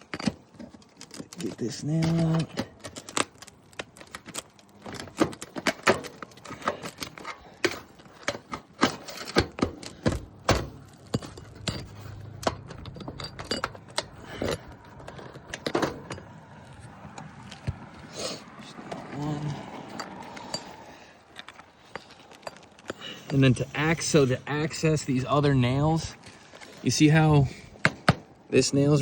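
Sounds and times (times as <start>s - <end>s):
tool clicking and scraping: 0.0s - 26.9s.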